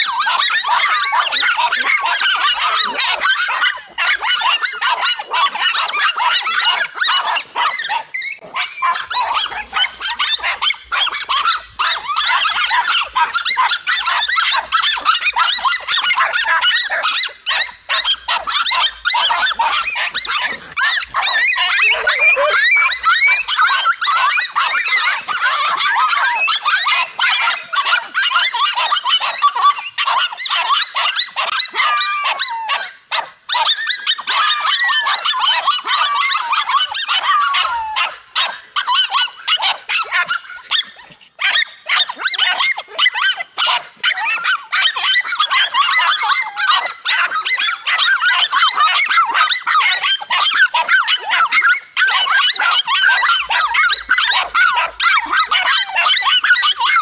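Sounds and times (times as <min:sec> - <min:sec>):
dogs barking and yelping: 0:00.0 - 0:57.0.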